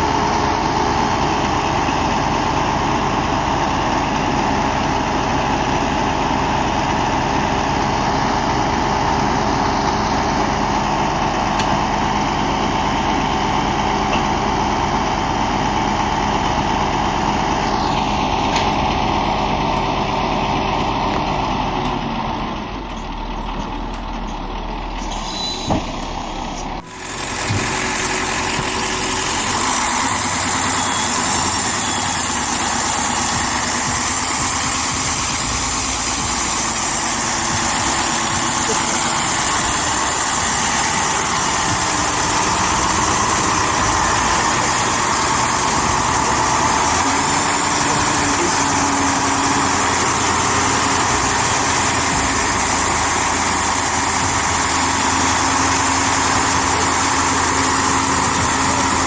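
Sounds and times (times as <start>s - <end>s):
diesel truck engine running: 0.0s - 59.0s
engine running with hiss: 0.0s - 59.0s.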